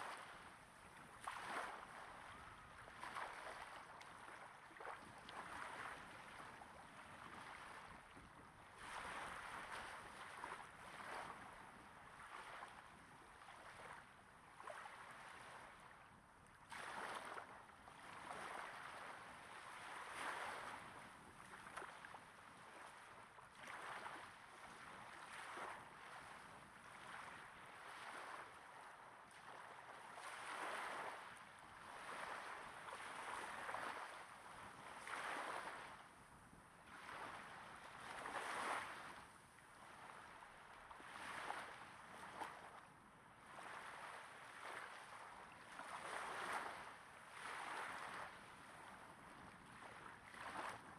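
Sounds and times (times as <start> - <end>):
small waves lapping on sand: 0.0 - 50.9.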